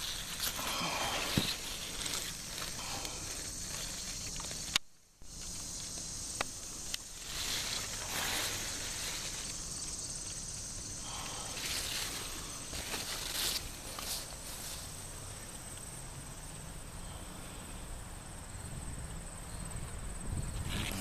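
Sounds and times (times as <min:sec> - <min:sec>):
leaves rustling against microphone: 0:00.0 - 0:18.8, 0:19.6 - 0:21.0
steady outdoor hiss: 0:00.0 - 0:21.0.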